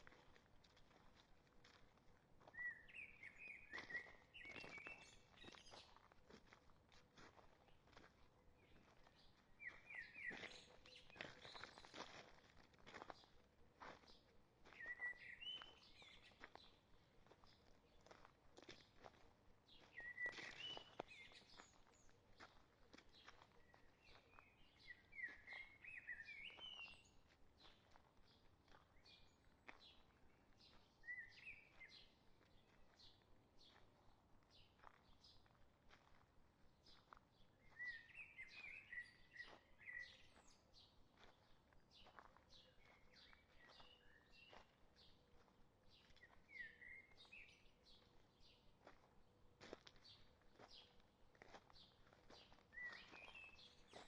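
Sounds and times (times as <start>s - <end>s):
footsteps on forest trail: 0.0s - 54.0s.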